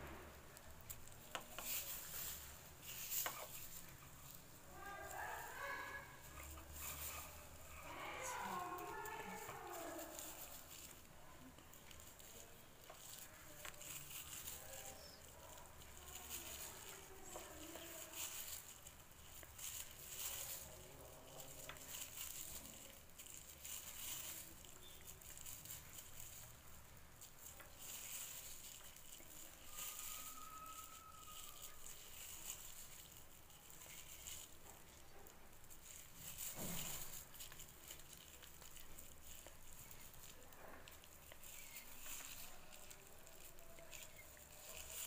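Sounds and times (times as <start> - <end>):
plastic strips crinkling: 0.0 - 45.0.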